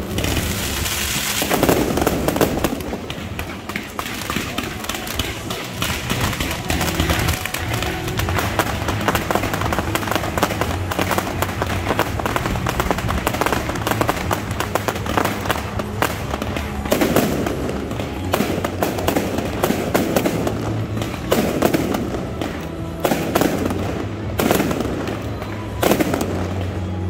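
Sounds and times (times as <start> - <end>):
background music: 0.0 - 27.0
rapid crackling pops: 0.0 - 27.0.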